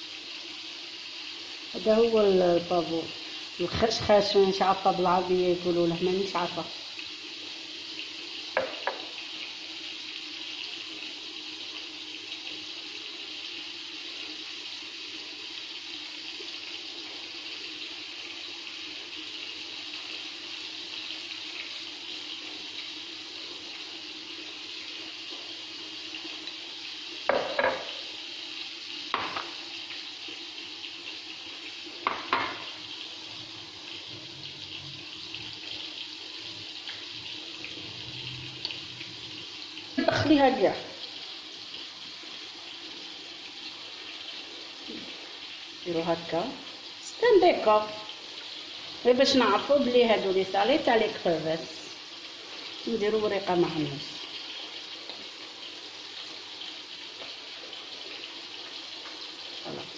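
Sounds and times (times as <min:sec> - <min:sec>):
kitchen tap running: 0:00.0 - 0:59.9.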